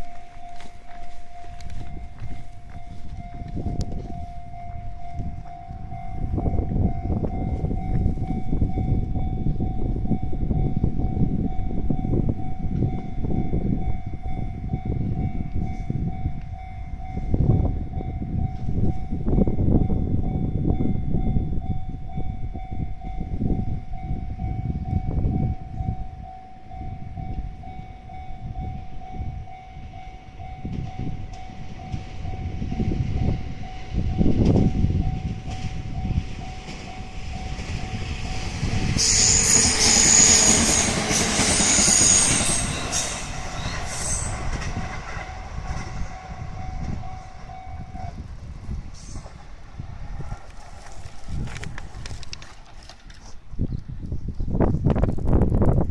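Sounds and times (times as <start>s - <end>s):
level crossing warning bell: 0.0s - 49.9s.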